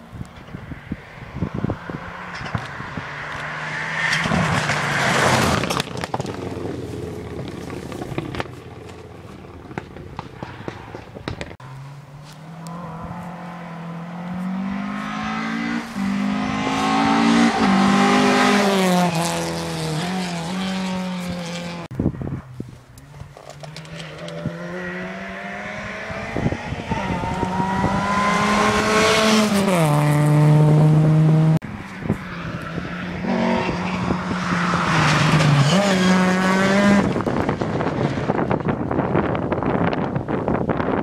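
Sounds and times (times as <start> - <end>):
rally cars passing revving: 0.4 - 21.9, 23.5 - 40.9.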